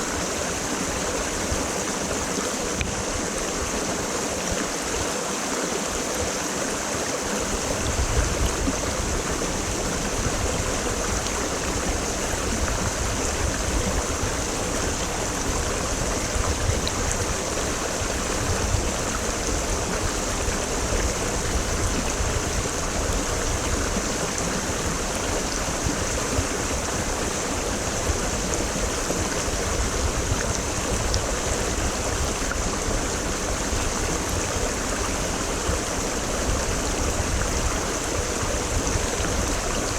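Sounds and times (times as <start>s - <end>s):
creek rushing over rocks: 0.0s - 39.9s.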